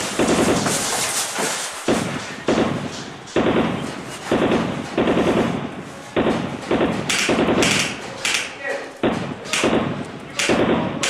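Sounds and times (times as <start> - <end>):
automatic gunfire bursts: 0.0 - 0.8, 1.9 - 11.0.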